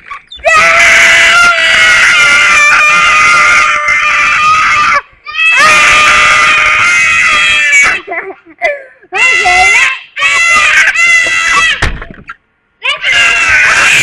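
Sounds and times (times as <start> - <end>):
children screaming: 0.0 - 8.1, 9.2 - 11.9, 12.8 - 14.0.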